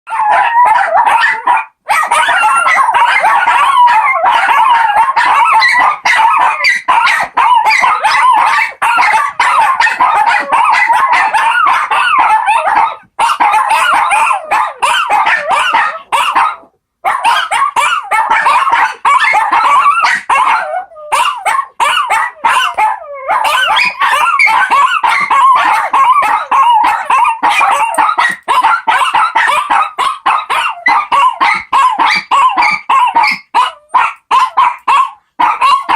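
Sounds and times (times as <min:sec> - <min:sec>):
dogs howling together: 0:00.1 - 0:16.6, 0:17.2 - 0:35.9.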